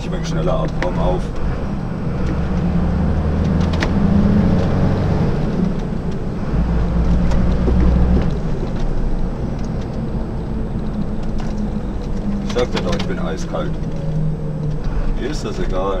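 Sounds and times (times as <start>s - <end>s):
diesel engine running: 0.0s - 16.0s
road noise: 0.0s - 16.0s.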